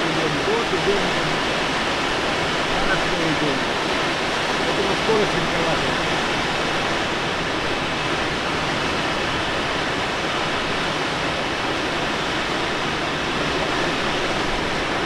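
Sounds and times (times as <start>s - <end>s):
rushing airflow in glider cockpit: 0.0s - 15.0s.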